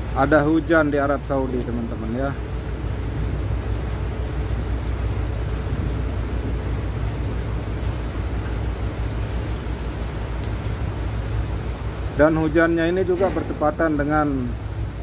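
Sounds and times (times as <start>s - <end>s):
rain on asphalt and car: 0.0s - 15.0s.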